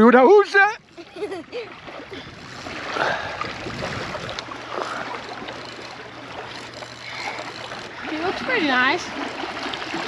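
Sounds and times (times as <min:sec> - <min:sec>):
small waves lapping: 0:00.0 - 0:10.0
wind: 0:00.0 - 0:10.0.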